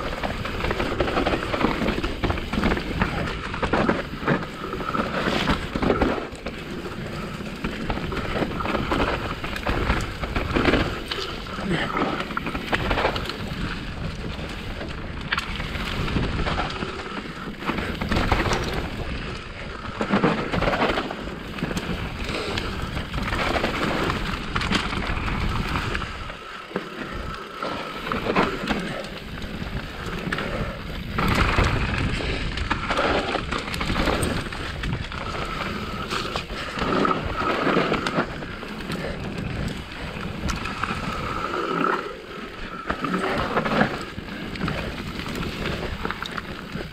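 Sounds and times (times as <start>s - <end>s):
bike frame and chain rattling: 0.0s - 46.9s
bike tyres rolling on dirt: 0.0s - 46.9s
wind buffeting microphone: 0.0s - 46.9s.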